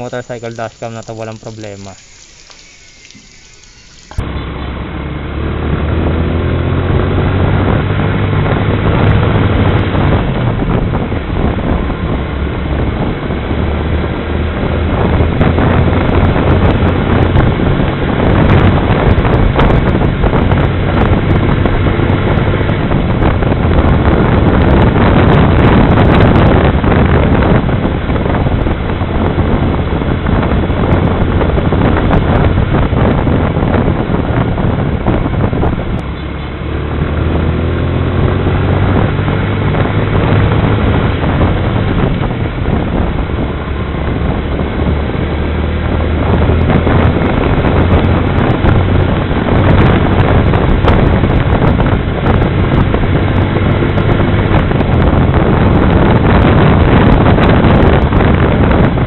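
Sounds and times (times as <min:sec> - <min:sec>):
wind noise on microphone: 0:00.0 - 0:59.0
motorcycle engine: 0:02.6 - 0:59.0.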